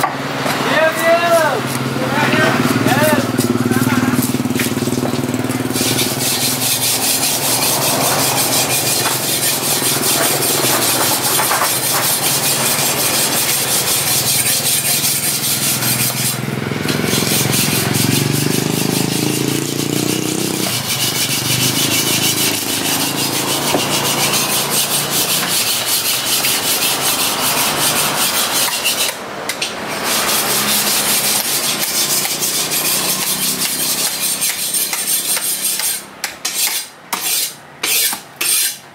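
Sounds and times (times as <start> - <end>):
knife scraping fish scales: 2.8 - 38.8.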